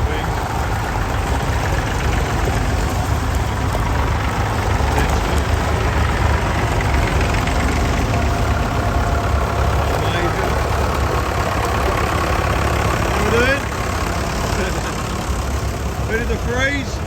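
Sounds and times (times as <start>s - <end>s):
tractor engine rumbling: 0.0s - 17.0s.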